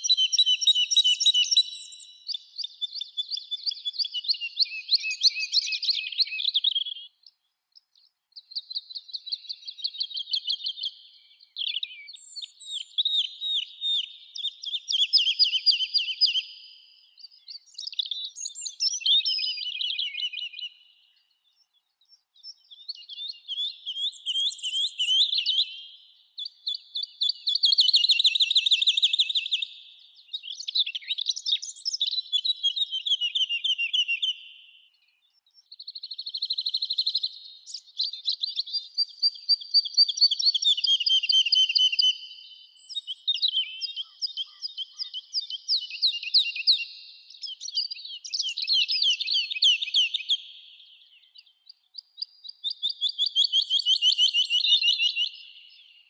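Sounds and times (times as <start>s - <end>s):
songbirds singing trills: 0.0s - 56.0s.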